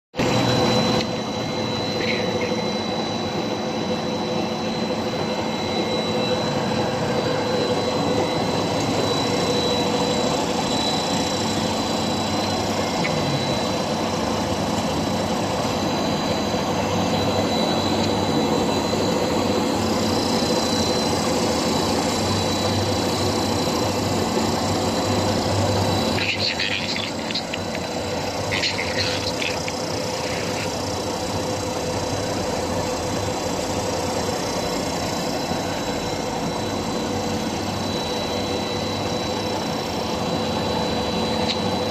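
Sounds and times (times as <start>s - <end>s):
machine motors droning: 0.2s - 41.9s
thin high whine: 0.2s - 41.9s.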